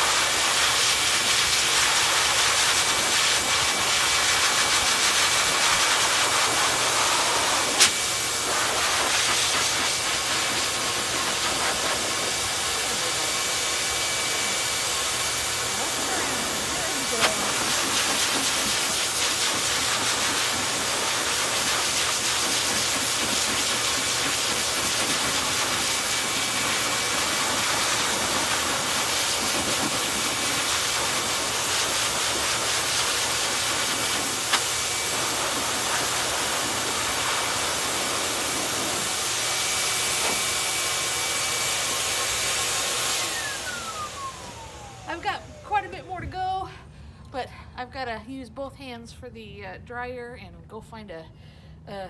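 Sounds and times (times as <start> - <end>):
dog dryer blowing air: 0.0 - 45.9.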